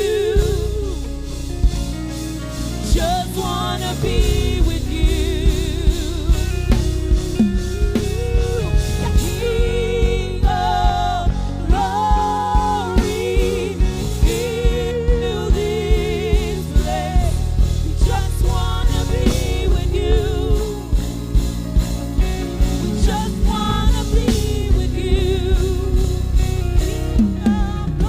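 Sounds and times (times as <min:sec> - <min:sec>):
bass: 0:00.0 - 0:28.0
person singing with vibrato: 0:00.0 - 0:28.0
steady drum beat: 0:00.0 - 0:28.0
sustained keyboard chords: 0:00.0 - 0:28.0.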